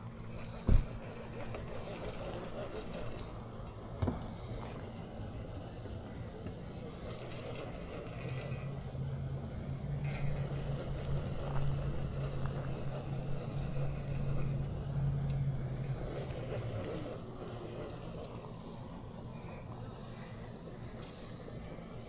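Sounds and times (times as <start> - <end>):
motor humming: 0.0 - 20.8.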